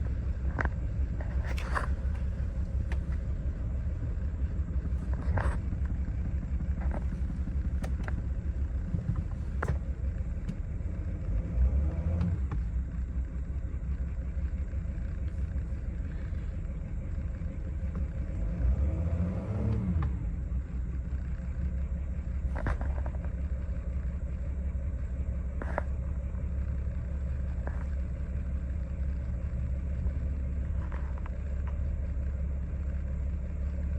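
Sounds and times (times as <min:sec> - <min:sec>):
van engine idling roughly: 0:00.0 - 0:19.5, 0:20.1 - 0:33.9.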